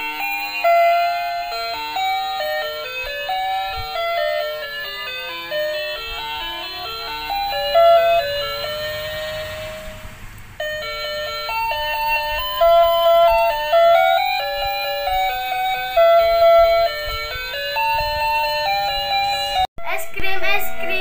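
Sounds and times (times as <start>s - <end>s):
electronic beeping jingle: 0.0s - 10.0s, 10.6s - 19.7s.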